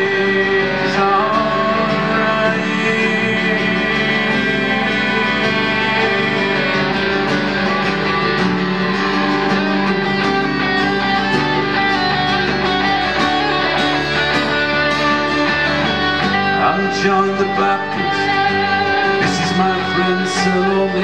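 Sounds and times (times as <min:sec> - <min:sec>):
acoustic guitar strummed: 0:00.0 - 0:21.0
electric guitar: 0:00.0 - 0:21.0.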